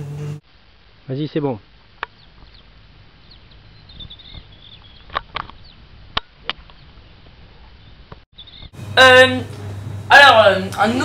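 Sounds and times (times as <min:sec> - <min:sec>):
faint birds chirping: 0:00.0 - 0:08.9.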